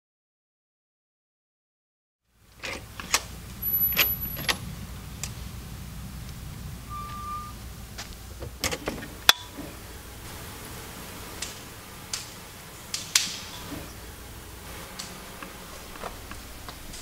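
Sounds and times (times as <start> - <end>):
steady low hum: 2.3 - 17.0.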